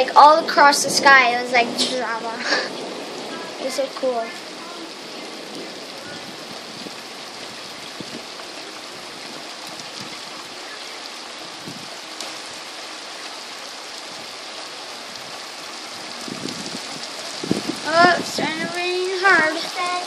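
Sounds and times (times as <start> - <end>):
raindrops ticking: 0.0 - 20.0
steady rain hiss: 0.0 - 20.0.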